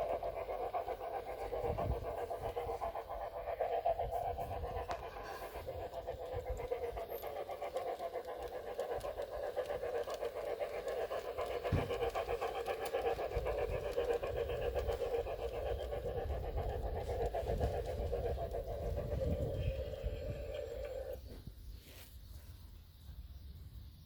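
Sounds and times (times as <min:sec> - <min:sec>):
simulated steam chuffs: 0:00.0 - 0:21.2.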